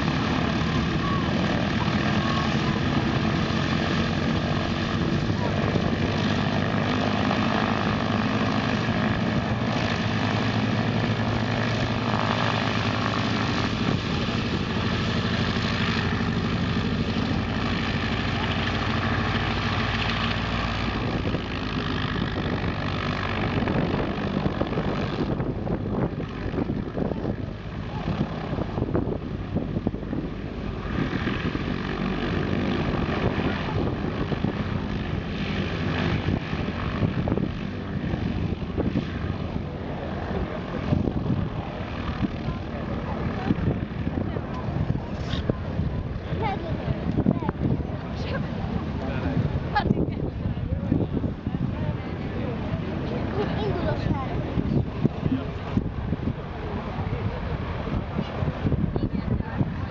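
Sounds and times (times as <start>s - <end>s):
propeller aircraft engines running: 0.0s - 59.9s.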